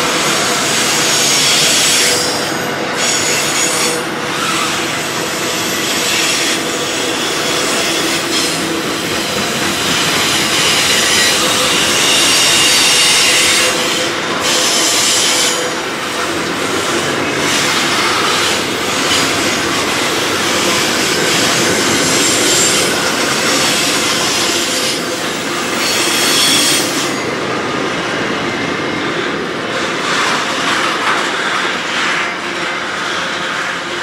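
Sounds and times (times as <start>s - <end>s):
freight train wagons rolling: 0.0s - 34.0s
high wheel squeals on rails: 0.0s - 34.0s.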